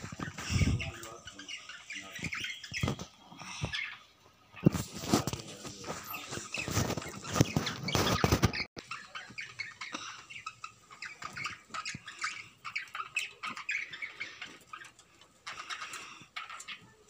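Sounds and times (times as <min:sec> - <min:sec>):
budgerigars chirping: 0:00.0 - 0:04.7, 0:05.9 - 0:17.0.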